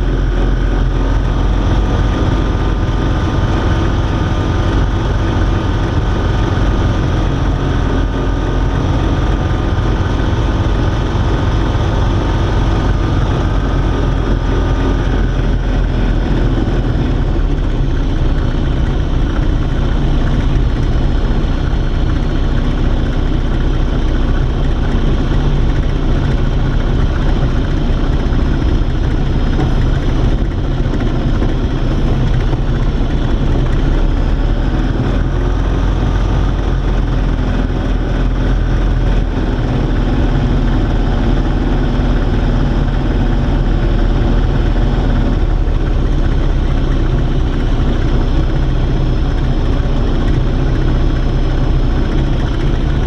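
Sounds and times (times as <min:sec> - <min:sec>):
low rumble and hiss in cockpit: 0:00.0 - 0:53.0.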